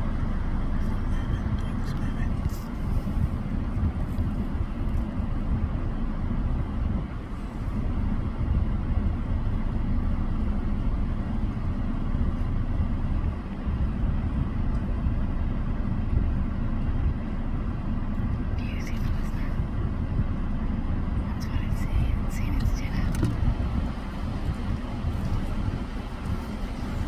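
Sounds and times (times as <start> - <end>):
car driving rumble: 0.0 - 27.0.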